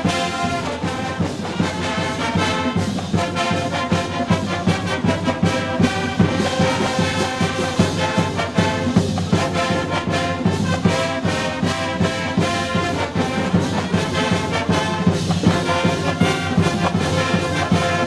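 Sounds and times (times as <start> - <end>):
instrumental music with brass: 0.0 - 18.0.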